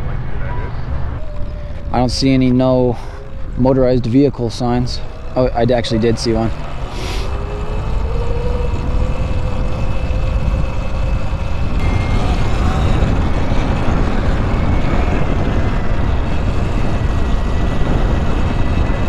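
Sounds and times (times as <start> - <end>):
wind buffeting microphone: 0.0 - 19.0
faint electric motor whine: 0.8 - 19.0.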